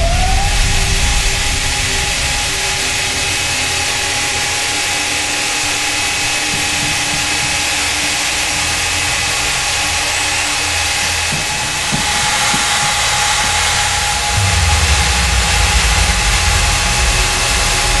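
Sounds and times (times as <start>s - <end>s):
belt sanding machine whirring: 2.5s - 18.0s.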